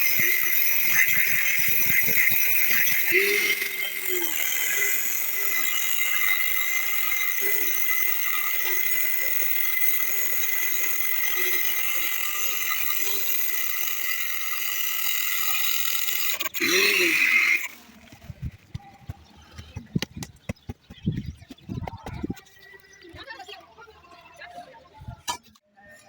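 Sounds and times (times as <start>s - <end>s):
angle grinder whining: 0.0s - 22.4s
grinding disc on metal: 0.0s - 22.4s.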